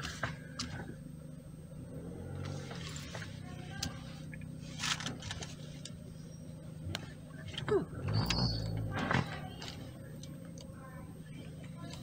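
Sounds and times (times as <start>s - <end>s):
car cabin low hum: 0.0s - 12.0s.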